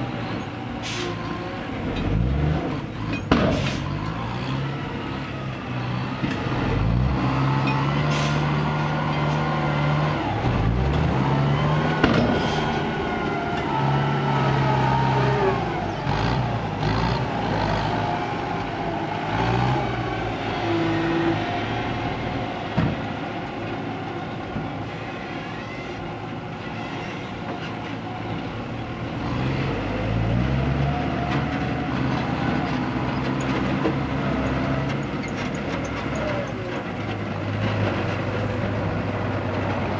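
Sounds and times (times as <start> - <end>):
diesel truck engine revving: 0.0 - 25.0, 27.4 - 39.9.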